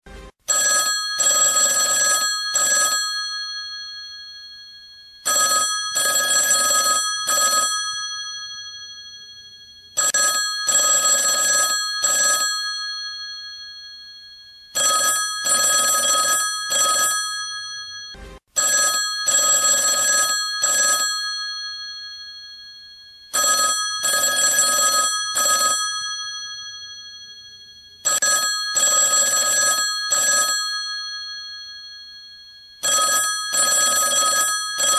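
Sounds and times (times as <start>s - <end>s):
telephone bell ringing: 0.5s - 34.9s.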